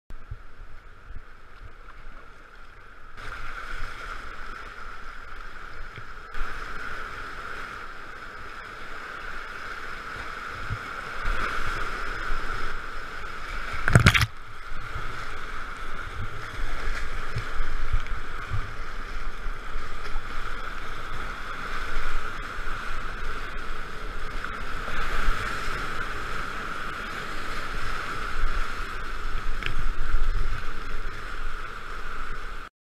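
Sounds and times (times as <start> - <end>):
kayak splashing: 0.4 - 32.7
whitewater rushing: 3.2 - 32.7.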